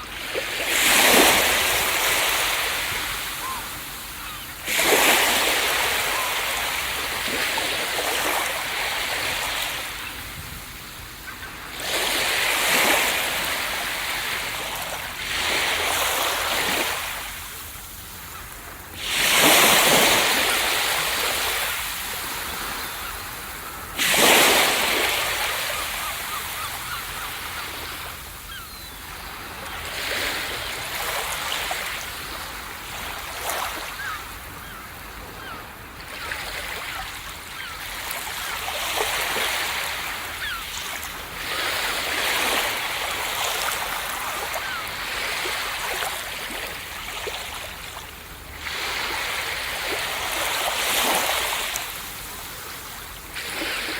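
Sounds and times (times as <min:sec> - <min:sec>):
ocean waves breaking on beach: 0:00.0 - 0:53.9.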